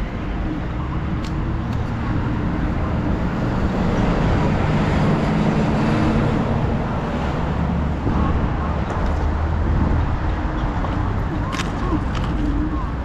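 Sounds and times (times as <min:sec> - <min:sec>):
road noise from motorized bike: 0:00.0 - 0:13.0
wind noise: 0:00.0 - 0:13.0.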